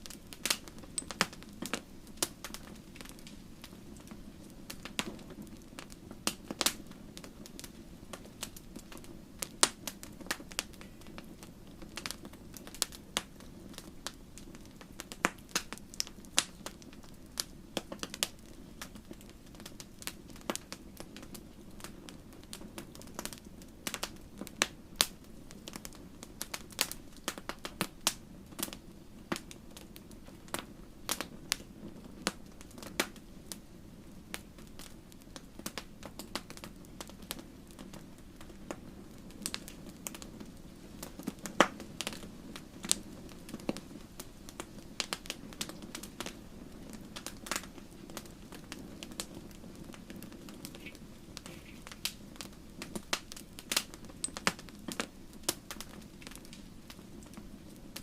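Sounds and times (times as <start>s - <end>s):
low hiss of burning: 0.0s - 58.0s
wood fire crackling: 0.0s - 58.0s.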